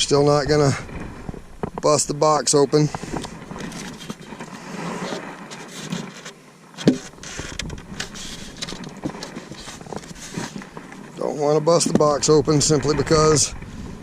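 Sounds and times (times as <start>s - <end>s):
rustling and handling noise: 0.7s - 14.0s.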